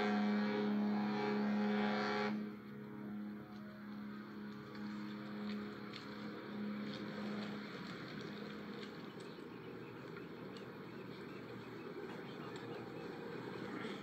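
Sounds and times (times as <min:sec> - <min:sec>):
ship horn long low blast: 0:00.0 - 0:14.0
steady background noise: 0:00.0 - 0:14.0.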